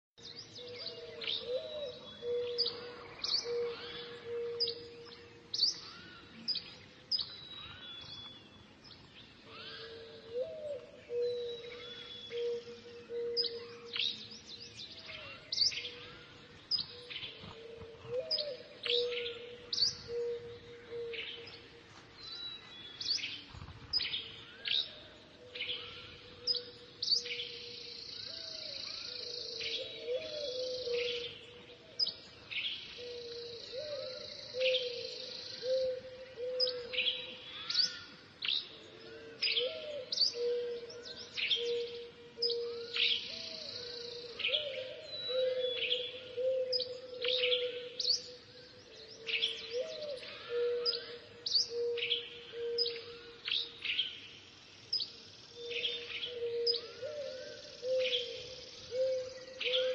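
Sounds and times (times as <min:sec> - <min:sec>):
small birds chirping: 0:00.2 - 0:59.9.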